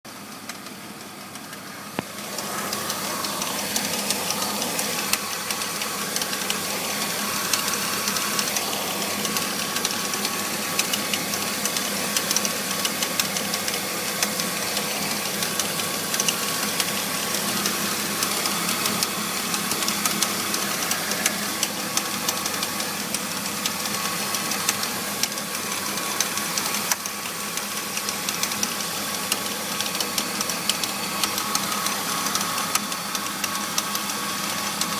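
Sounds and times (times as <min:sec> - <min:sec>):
car engine rattling: 0:00.2 - 0:34.9.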